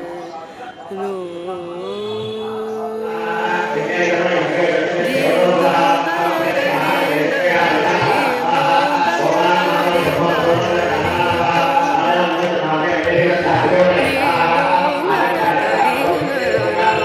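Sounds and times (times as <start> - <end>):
group chanting devotional song: 0.0 - 17.0.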